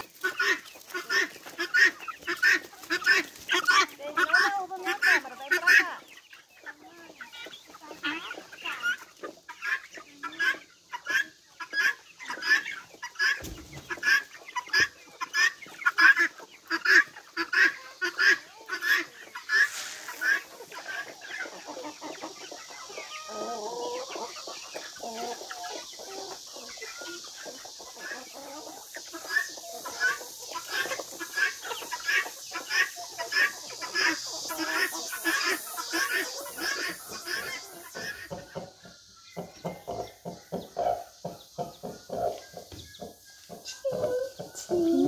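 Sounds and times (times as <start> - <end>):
young chickens clucking: 0.0 - 45.0.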